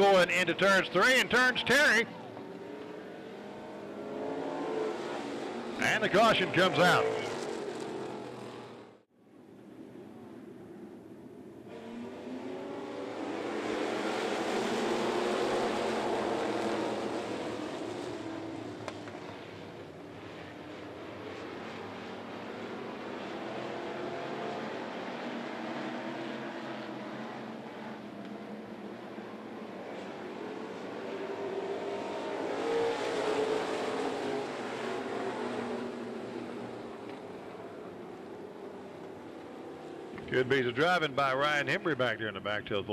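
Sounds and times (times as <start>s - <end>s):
race car engines passing by: 0.0s - 42.9s.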